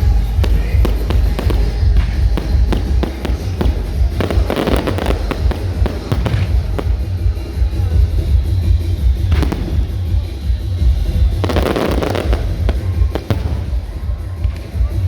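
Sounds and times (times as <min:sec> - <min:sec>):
fireworks crackling and popping: 0:00.0 - 0:15.0
music with heavy bass: 0:00.0 - 0:15.0.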